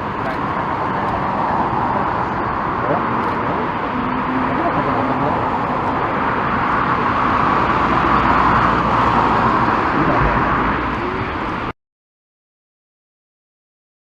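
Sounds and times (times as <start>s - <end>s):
jet engine roar: 0.0s - 11.7s.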